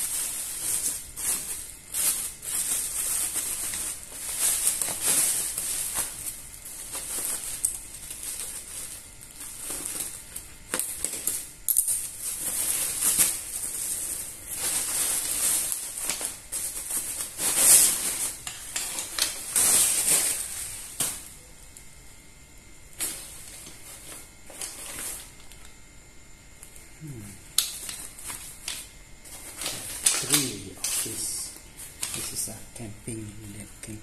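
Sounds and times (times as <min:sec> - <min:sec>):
bubble wrap crinkling: 0:00.0 - 0:21.6, 0:22.9 - 0:25.8, 0:26.5 - 0:34.0.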